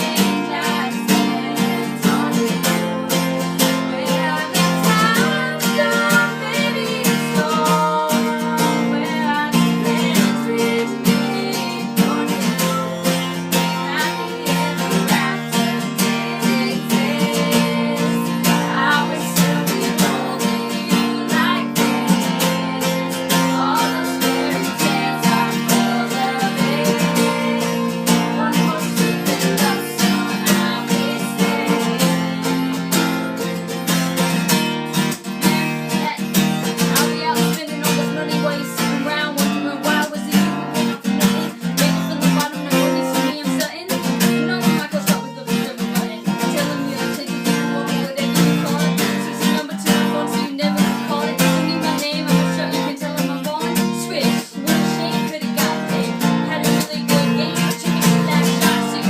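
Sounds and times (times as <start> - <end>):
strummed acoustic guitar music: 0.0 - 59.0.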